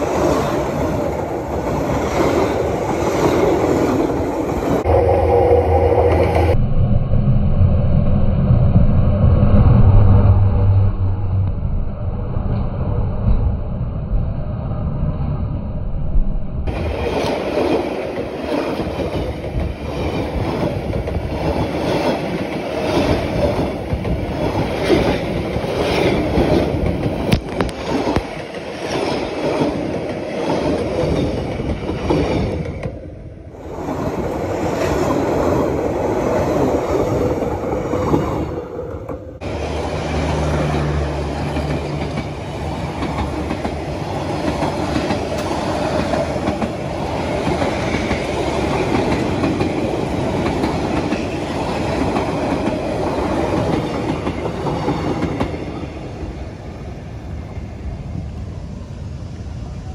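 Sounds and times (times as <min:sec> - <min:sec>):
train wheels rumbling on rail: 0:00.0 - 0:06.6, 0:16.6 - 0:59.9.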